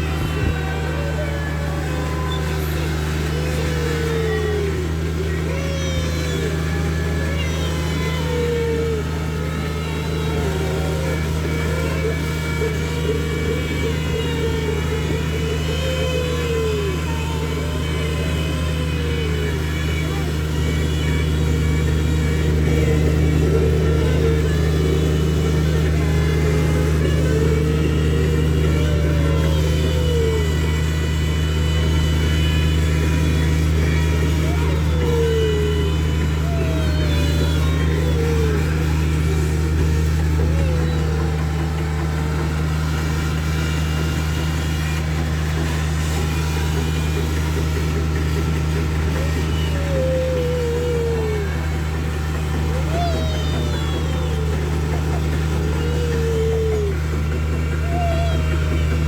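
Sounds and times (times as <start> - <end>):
low motor hum: 0.0 - 59.0
train rumbling in motion: 0.0 - 59.0
wavering high tone: 0.0 - 59.0.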